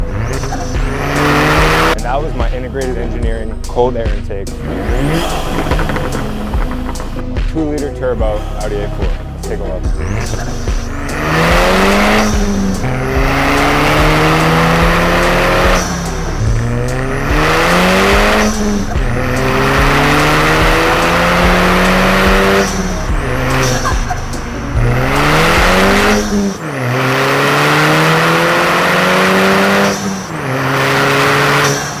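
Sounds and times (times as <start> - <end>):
car engine accelerating: 0.0 - 32.0
intake and turbo hiss: 0.0 - 32.0
turbo blow-off flutter: 4.6 - 7.4, 8.2 - 32.0.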